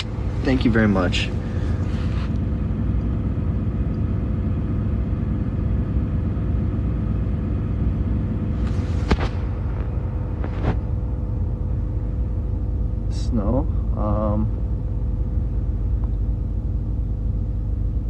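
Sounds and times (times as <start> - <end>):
faint steady hum: 0.0 - 18.0
truck engine low rumble: 0.0 - 18.0.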